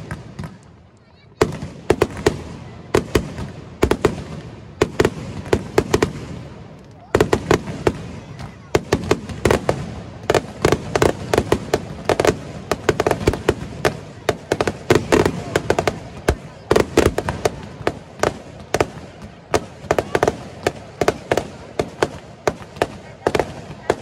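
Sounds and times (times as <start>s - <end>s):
fireworks bursting with sharp bangs: 0.0s - 24.0s.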